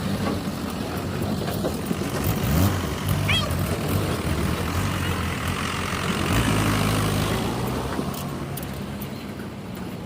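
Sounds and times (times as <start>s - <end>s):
diesel engine revving: 0.0s - 9.0s.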